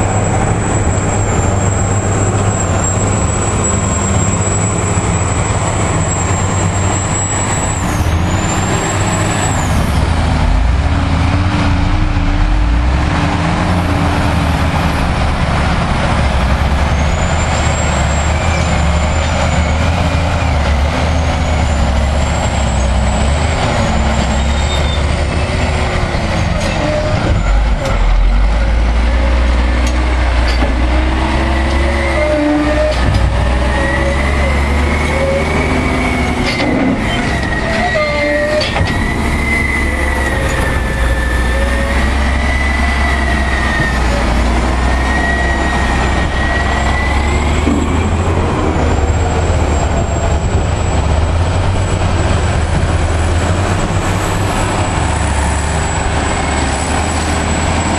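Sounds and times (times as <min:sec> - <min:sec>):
heavy diesel engines rumbling: 0:00.0 - 0:57.9.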